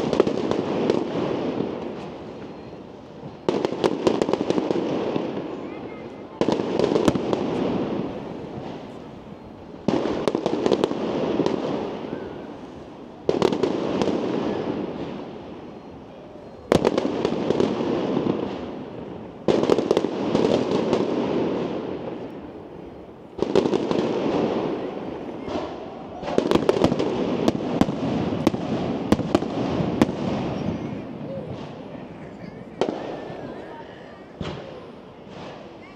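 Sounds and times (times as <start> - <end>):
rapid firework crackle: 0.0 - 15.9, 16.6 - 35.9
firework shells booming: 6.4 - 16.0, 16.7 - 35.9.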